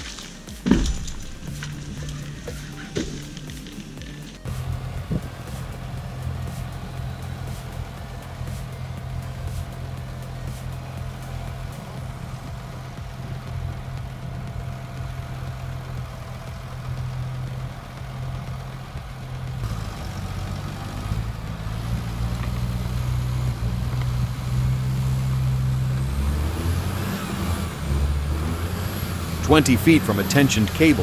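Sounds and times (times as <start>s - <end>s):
heavy engine running: 0.0s - 31.0s.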